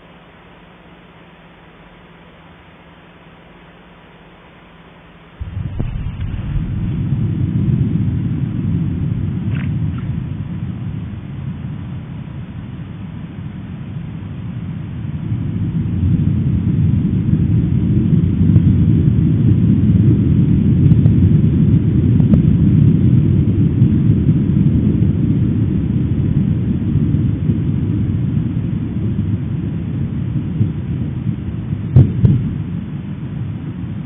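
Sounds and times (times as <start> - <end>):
volcano eruption roar: 5.4 - 34.0.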